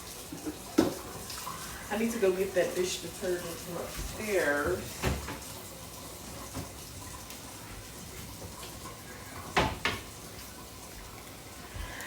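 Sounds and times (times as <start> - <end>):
tap running into a sink: 0.0 - 1.6, 3.8 - 12.0.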